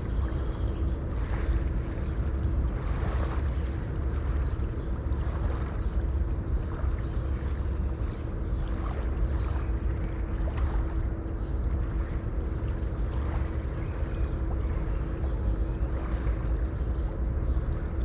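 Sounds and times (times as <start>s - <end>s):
deep low rumble: 0.0s - 18.0s
faint steady hum: 0.0s - 18.0s.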